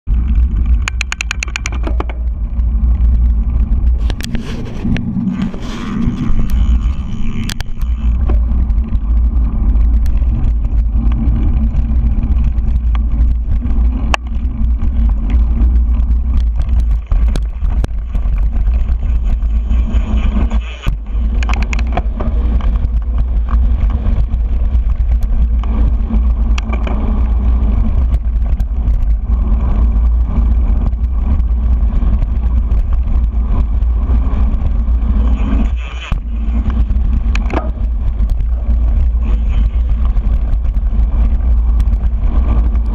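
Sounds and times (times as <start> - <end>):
wind buffeting camera: 0.0 - 42.9
bike clicks and rattles: 0.1 - 42.9
tyres rolling on dirt: 0.1 - 42.9.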